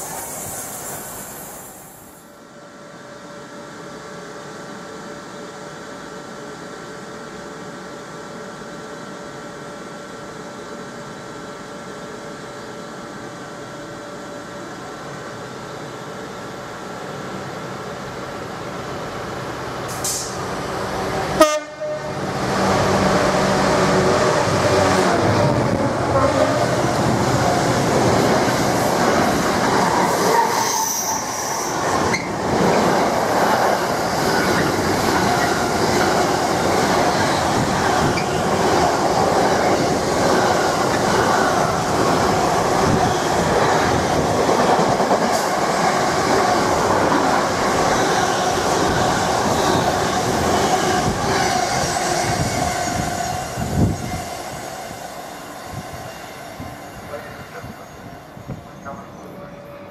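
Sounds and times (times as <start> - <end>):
freight train rushing past: 0.0 - 2.4, 3.4 - 59.9
electric train humming: 0.0 - 59.9.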